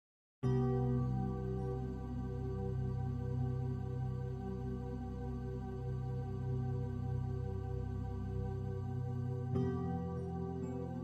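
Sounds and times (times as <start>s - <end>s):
ambient sustained chord: 0.5s - 11.0s.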